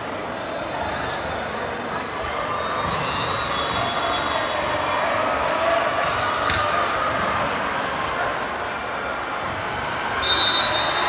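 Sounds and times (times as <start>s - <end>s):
hubbub of voices: 0.0s - 11.0s.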